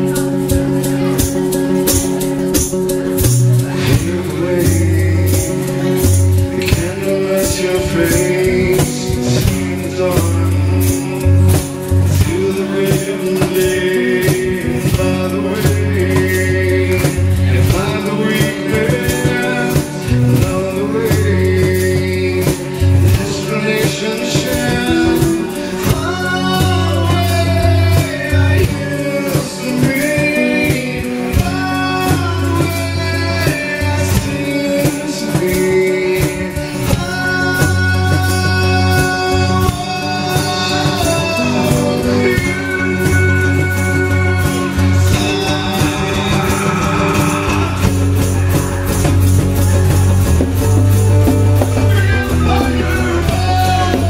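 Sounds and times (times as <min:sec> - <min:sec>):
bass guitar notes: 0:00.0 - 0:54.0
light percussion beat: 0:00.0 - 0:54.0
man singing: 0:00.0 - 0:54.0
strummed acoustic guitars: 0:00.0 - 0:54.0.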